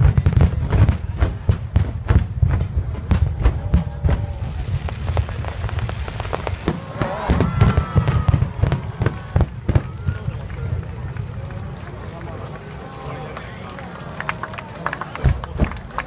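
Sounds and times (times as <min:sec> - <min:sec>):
fireworks booming and crackling: 0:00.0 - 0:12.8, 0:15.2 - 0:16.0.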